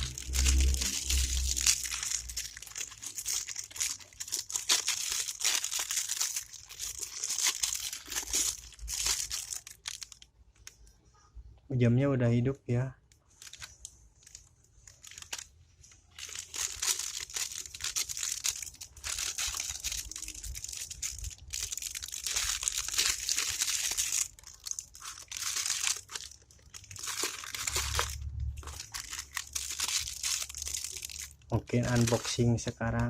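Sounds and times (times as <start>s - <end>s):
packaging crinkling: 0.0s - 10.9s, 13.1s - 33.0s.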